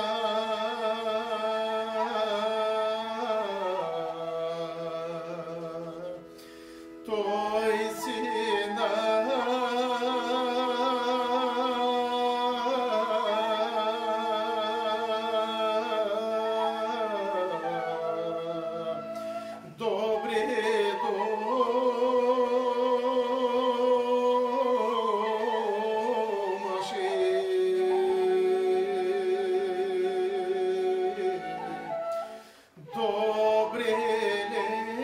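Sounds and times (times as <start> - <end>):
folk melody with vibrato: 0.0 - 35.0.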